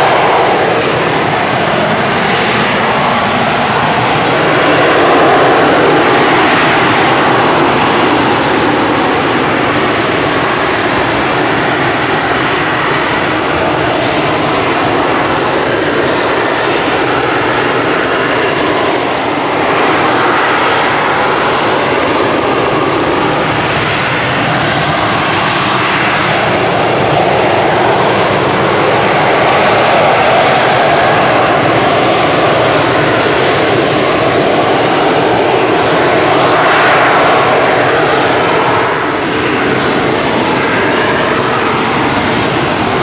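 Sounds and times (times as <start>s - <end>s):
loud jet engine noise: 0.0s - 43.0s.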